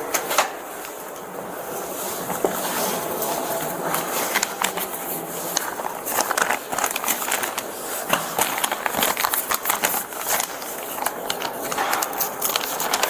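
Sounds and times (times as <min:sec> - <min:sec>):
rustling and crackling handling noise: 0:00.0 - 0:13.0.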